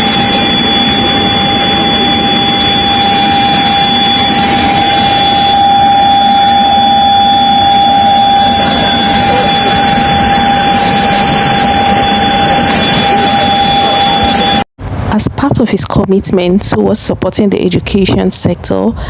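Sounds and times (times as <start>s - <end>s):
high-pitched engine whine: 0.0s - 15.6s
jet engines rushing: 0.0s - 15.7s.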